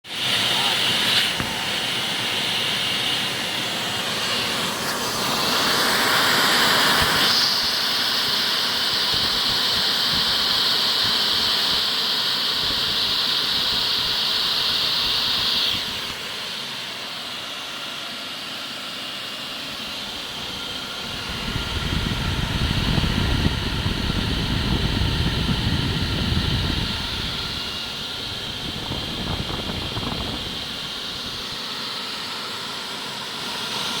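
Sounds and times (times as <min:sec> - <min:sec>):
blower rushing air: 0:00.0 - 0:34.0.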